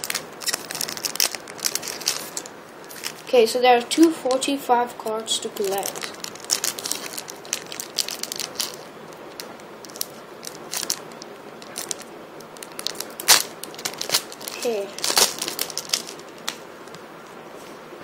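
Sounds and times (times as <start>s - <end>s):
foil packet crinkling: 0.0s - 3.3s, 5.5s - 16.7s.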